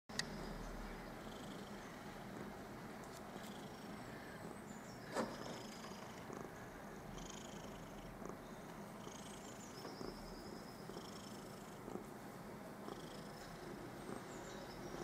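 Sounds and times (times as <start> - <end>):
cat purring: 1.1 - 2.5, 3.2 - 15.0.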